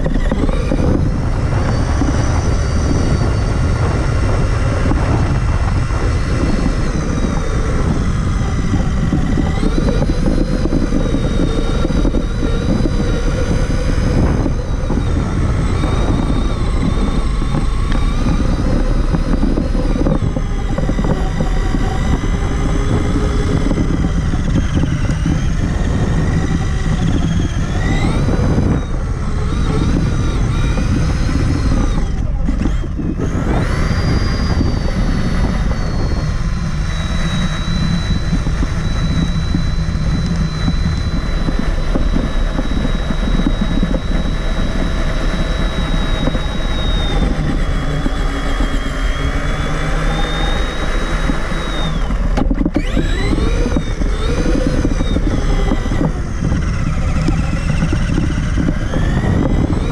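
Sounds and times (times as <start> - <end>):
drivetrain rumble: 0.0 - 59.9
electric motor and gear whine: 0.0 - 59.9.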